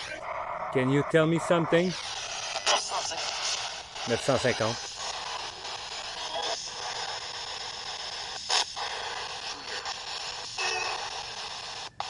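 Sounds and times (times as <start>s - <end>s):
radio static: 0.0s - 12.0s
sharp burst of static: 0.0s - 12.0s
snatches of broadcast sound: 0.0s - 12.0s.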